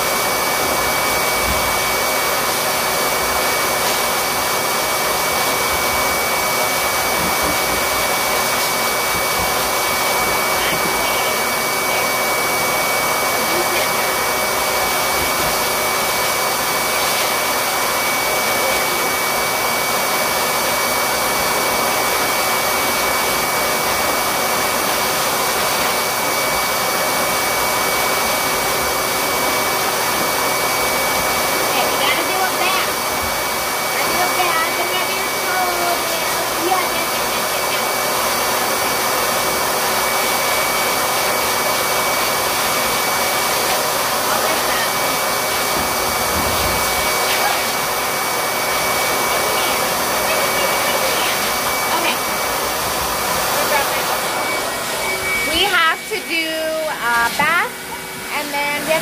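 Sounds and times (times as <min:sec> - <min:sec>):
blower rushing with high whine: 0:00.0 - 0:59.0.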